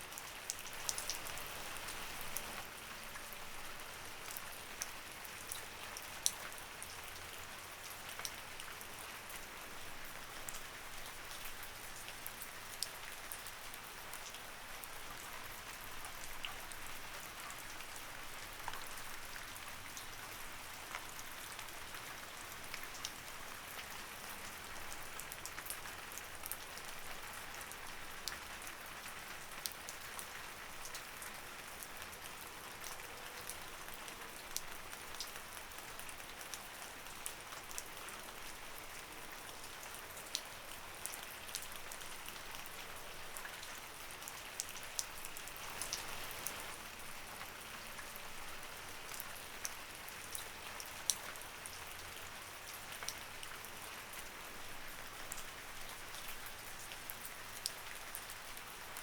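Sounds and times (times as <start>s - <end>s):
light rain falling: 0.0s - 59.0s
raindrops ticking on a surface: 0.1s - 59.0s.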